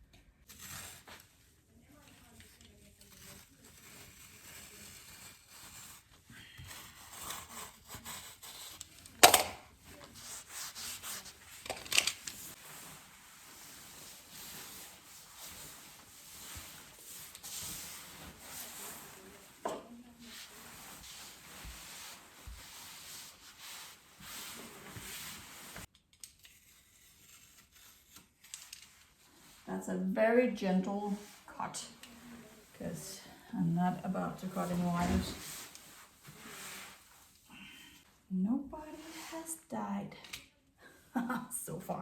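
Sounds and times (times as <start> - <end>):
wall covering rustling and rubbing: 0.3 - 25.9, 26.5 - 39.7.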